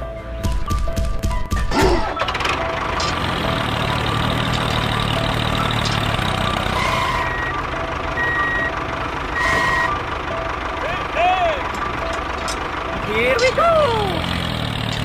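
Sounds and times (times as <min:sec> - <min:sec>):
tractor engine idling: 0:01.8 - 0:15.0.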